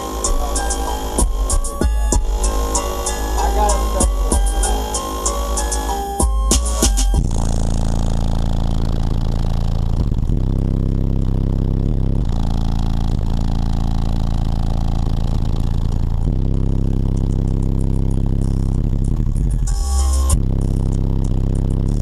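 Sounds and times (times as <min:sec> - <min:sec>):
loud bass music from car audio: 0:00.0 - 0:22.0.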